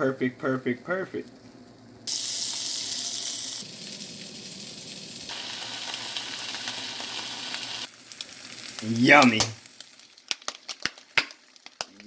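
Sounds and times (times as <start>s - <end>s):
food sizzling in a pan: 1.4s - 12.0s.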